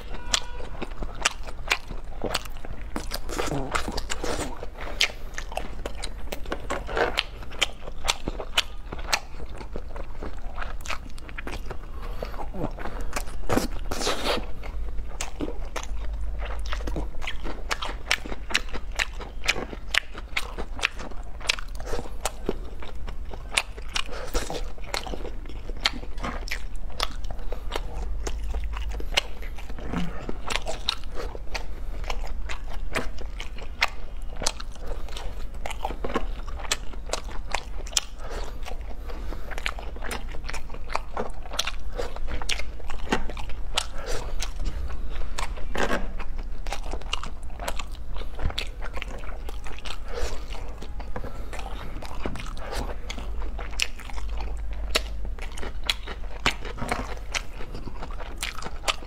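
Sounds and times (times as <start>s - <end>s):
person biting and chewing food: 0.0s - 59.0s.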